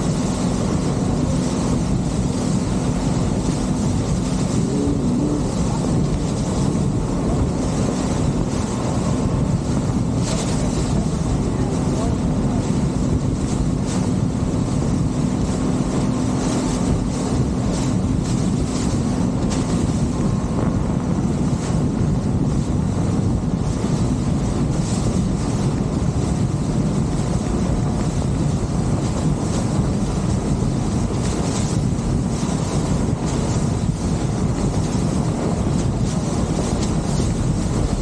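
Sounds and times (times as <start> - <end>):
motorboat engine hum: 0.0 - 38.0
water rushing past hull: 0.0 - 38.0
wind buffeting microphone: 0.0 - 38.0.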